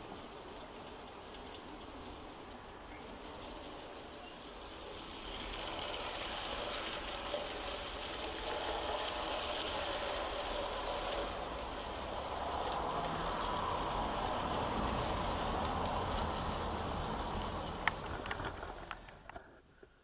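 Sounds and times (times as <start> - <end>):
model train wheels rattling: 0.0 - 19.6.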